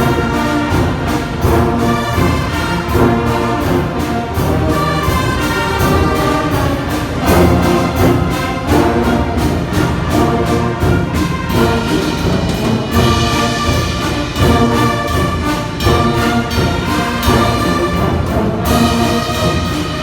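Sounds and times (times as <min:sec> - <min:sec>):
brass band playing a hymn: 0:00.0 - 0:20.0.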